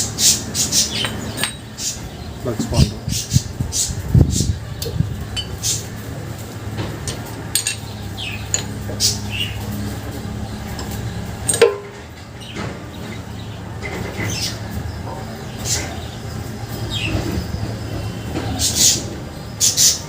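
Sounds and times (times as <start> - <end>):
lovebirds chirping: 0.0 - 6.2, 7.5 - 20.0
steady low hum: 0.0 - 20.0.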